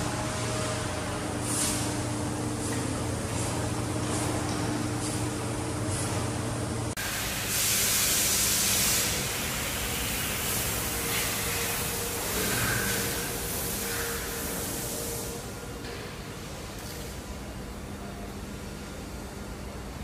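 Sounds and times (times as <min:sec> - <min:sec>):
factory hall background hiss: 0:00.0 - 0:20.0
low machine hum: 0:00.0 - 0:20.0.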